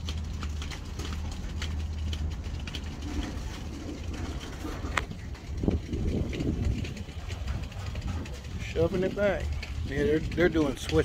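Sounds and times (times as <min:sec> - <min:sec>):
low rumble of rolling train: 0:00.0 - 0:11.0
train wheels clicking and ticking: 0:00.0 - 0:11.0.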